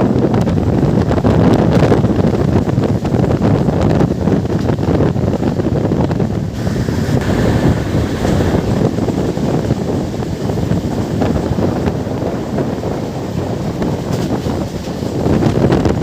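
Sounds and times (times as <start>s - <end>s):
train running rumble: 0.0s - 16.0s
wind buffeting microphone: 0.0s - 16.0s.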